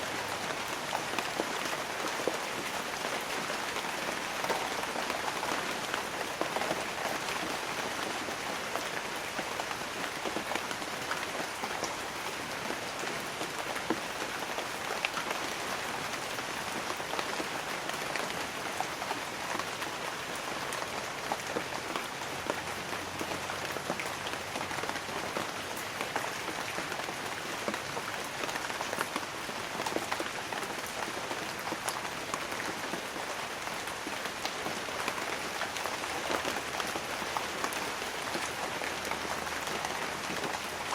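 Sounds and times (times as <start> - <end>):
hiss of rain: 0.0 - 40.9
rain drops on leaves: 0.0 - 40.9.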